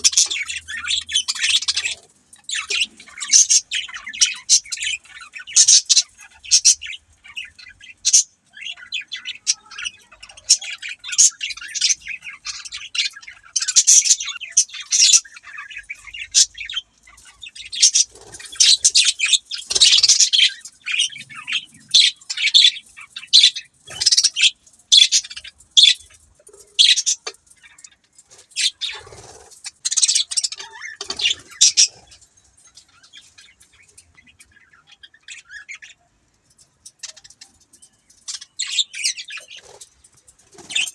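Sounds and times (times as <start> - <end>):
budgies chirping and chattering: 0.0 - 40.9.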